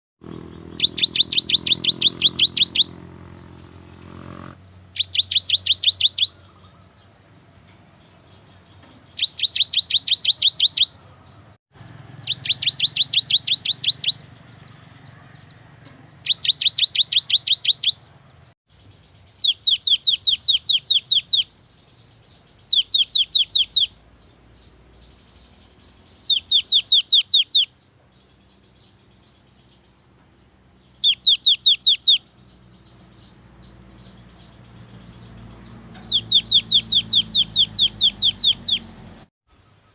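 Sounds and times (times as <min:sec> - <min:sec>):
bird singing high repeated notes: 0:00.2 - 0:04.1, 0:04.7 - 0:06.9, 0:08.3 - 0:11.4, 0:12.2 - 0:14.6, 0:16.1 - 0:18.1, 0:18.7 - 0:30.0, 0:30.7 - 0:39.2.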